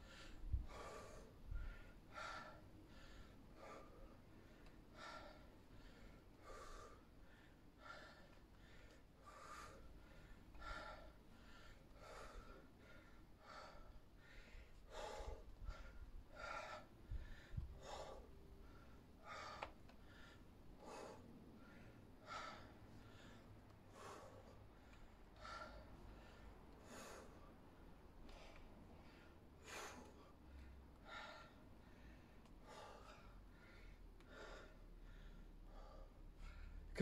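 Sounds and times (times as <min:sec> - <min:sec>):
man breathing hard: 0:00.0 - 0:37.0.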